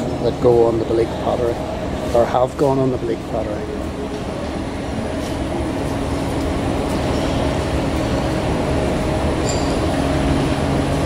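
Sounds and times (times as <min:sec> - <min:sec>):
factory machinery rumble: 0:00.0 - 0:11.0.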